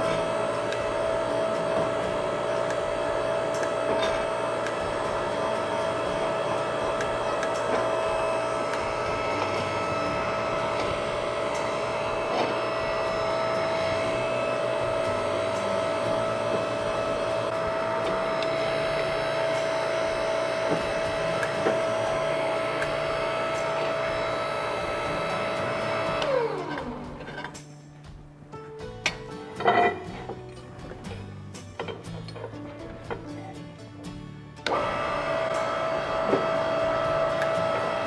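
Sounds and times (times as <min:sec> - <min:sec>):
electric motor whine: 0:00.0 - 0:28.2, 0:28.8 - 0:38.0.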